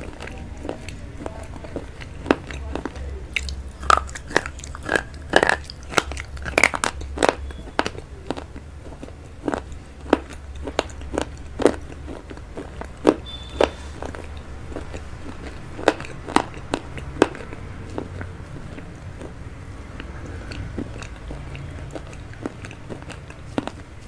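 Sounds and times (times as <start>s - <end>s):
person chewing noodles: 0.0s - 24.0s.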